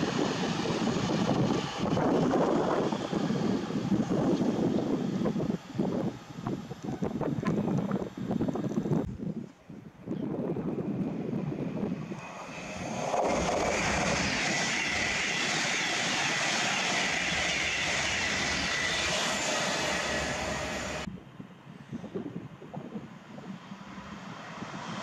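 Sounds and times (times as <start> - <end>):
electric train passing at speed: 0.0 - 9.1, 10.3 - 25.0.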